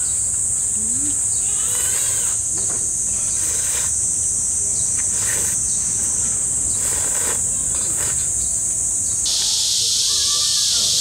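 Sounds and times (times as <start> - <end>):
cicada chorus: 0.0 - 11.0.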